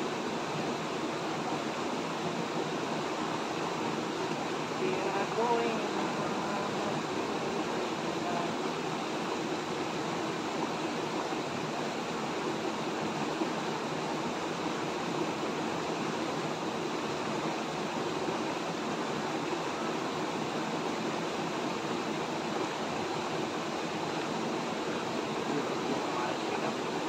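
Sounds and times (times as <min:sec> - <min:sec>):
river rushing over stones: 0:00.0 - 0:27.0.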